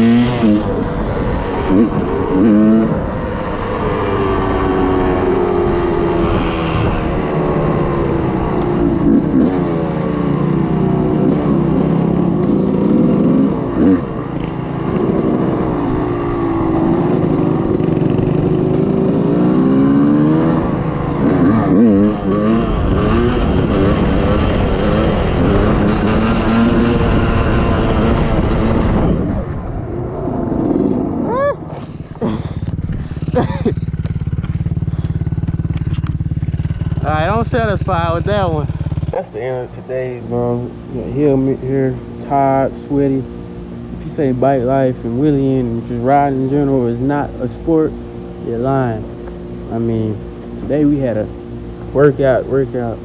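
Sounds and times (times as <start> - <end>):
quad engine revving: 0.0 - 53.0
second motorbike engine: 0.0 - 53.0.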